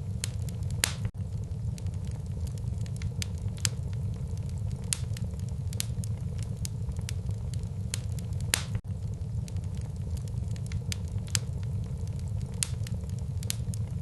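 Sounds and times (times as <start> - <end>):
fire crackles and pops: 0.0 - 14.0
flames rumbling: 0.0 - 14.0.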